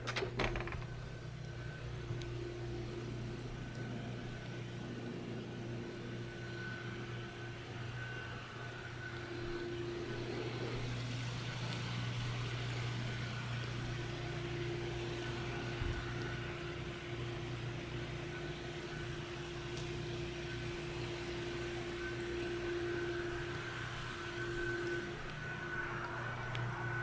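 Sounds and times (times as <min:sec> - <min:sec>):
mechanical hum with hiss: 0:00.0 - 0:27.0.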